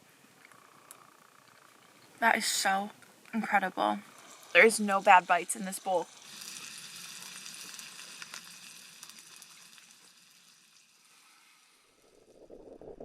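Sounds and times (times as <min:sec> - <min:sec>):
wood stove sizzling and crackling: 0:00.1 - 0:12.6.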